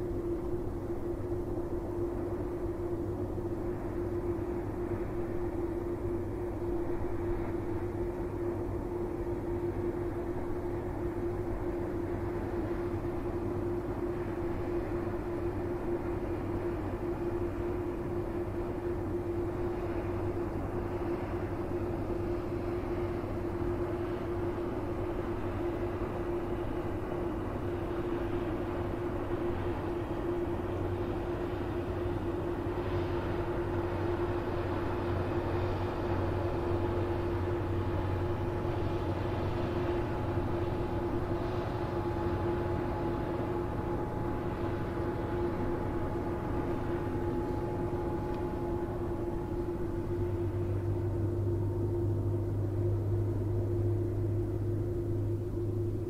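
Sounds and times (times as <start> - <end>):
ship diesel engines droning: 0.0 - 56.0.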